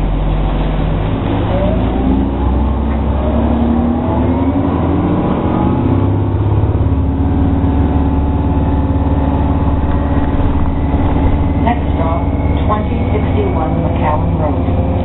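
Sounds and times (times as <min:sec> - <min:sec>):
bus drivetrain hum: 0:00.0 - 0:15.0.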